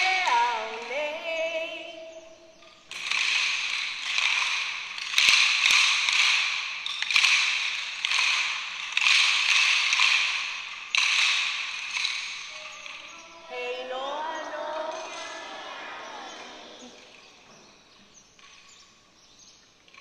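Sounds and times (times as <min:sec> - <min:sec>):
wooden sticks struck in rhythm: 0:00.0 - 0:20.0.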